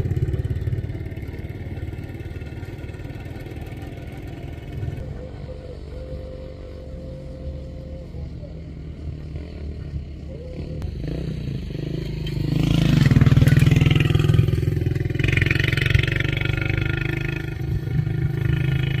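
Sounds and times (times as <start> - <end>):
motor engine rumbling: 0.0 - 19.0.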